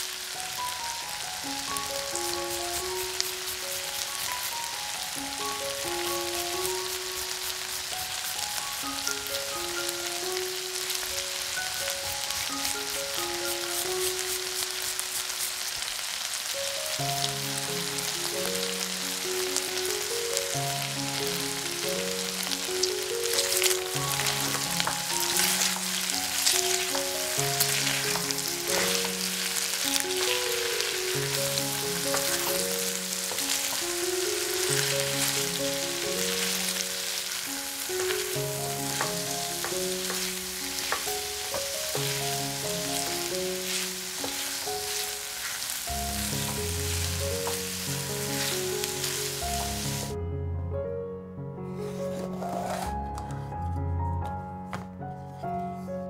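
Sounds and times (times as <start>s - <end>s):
background music: 0.0s - 15.7s, 16.5s - 56.0s
food sizzling in a frying pan: 0.0s - 50.2s.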